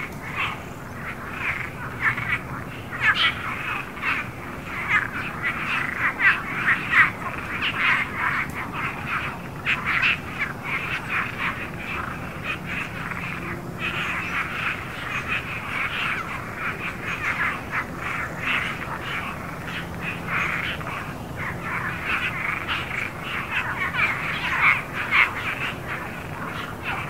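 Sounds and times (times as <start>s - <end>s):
frogs croaking: 0.0s - 27.0s.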